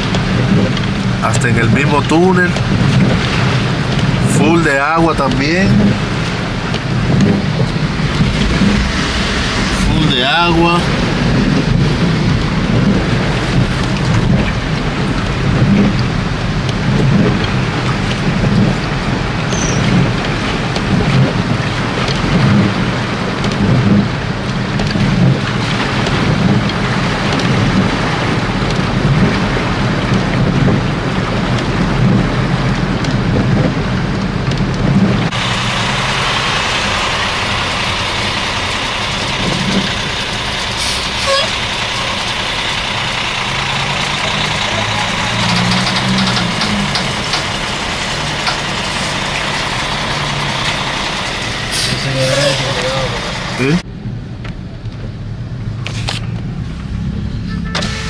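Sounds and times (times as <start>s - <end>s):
truck engine running: 0.0s - 34.1s, 34.7s - 53.8s
car driving through water: 0.0s - 58.0s.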